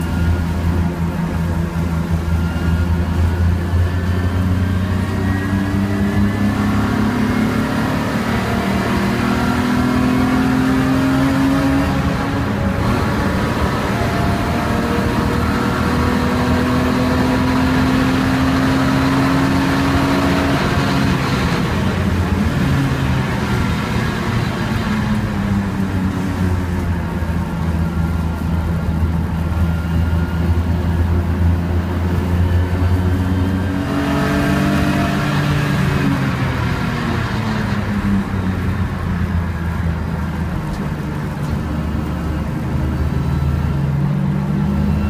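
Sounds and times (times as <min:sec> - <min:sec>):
race car engine accelerating: 0:00.0 - 0:45.0.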